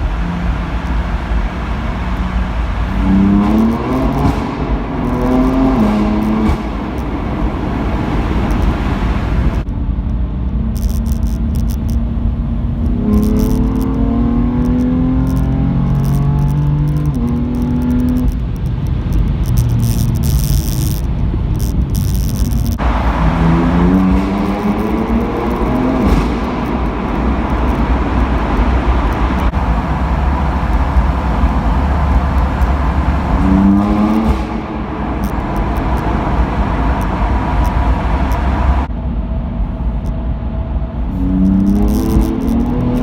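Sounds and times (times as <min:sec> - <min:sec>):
car engine accelerating: 0:00.0 - 0:43.0
road noise: 0:00.0 - 0:43.0.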